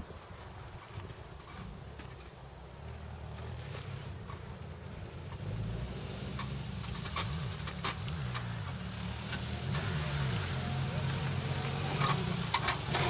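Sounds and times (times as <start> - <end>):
off-road engine labouring and revving: 0.8 - 13.0.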